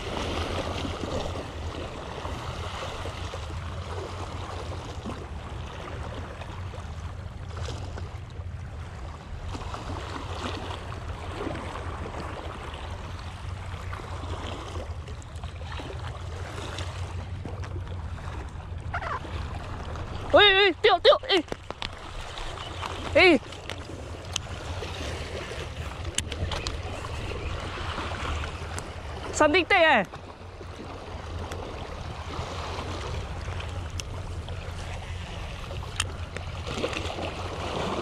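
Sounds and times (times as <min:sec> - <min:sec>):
waves lapping against rocks: 0:00.0 - 0:38.0.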